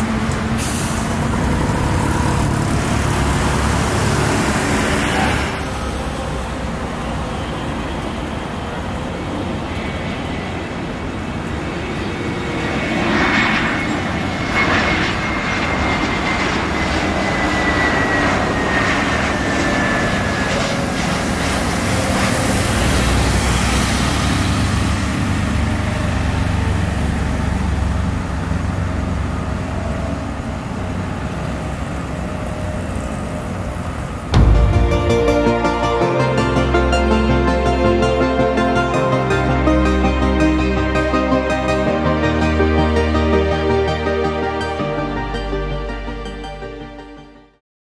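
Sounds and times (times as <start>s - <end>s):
jet engines rumbling and whining: 0.0s - 46.5s.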